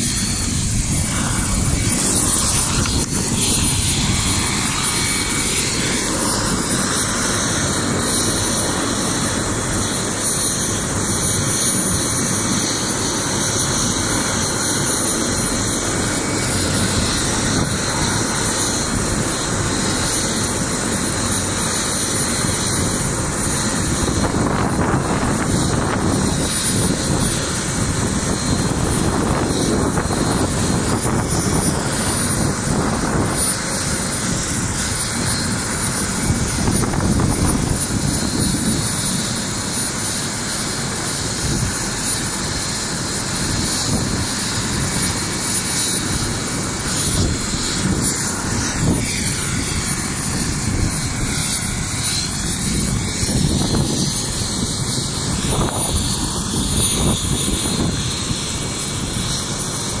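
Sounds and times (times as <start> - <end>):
helicopter rotor and turbine noise: 0.0 - 60.0
high turbine whine: 0.0 - 60.0.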